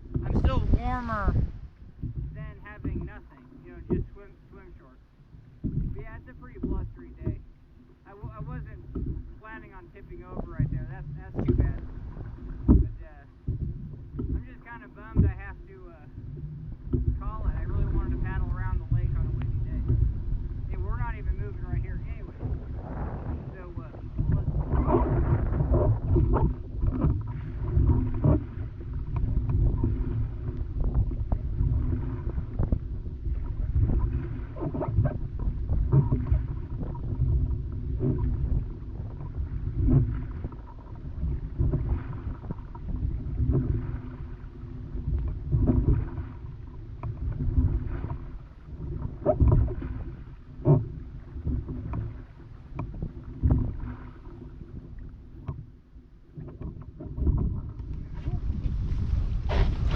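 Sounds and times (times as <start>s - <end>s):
water lapping against raft: 0.0s - 59.9s
wind rumbling on microphone: 0.0s - 59.9s.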